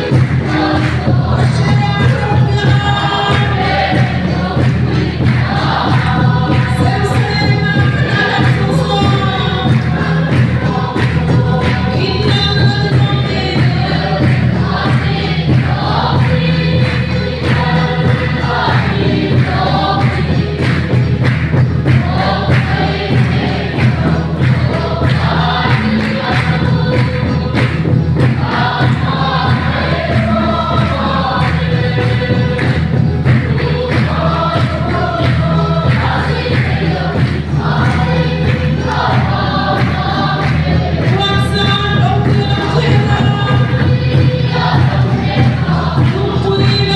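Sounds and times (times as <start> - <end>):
group singing a hymn: 0.0 - 46.9
steady percussion beat: 0.0 - 46.9.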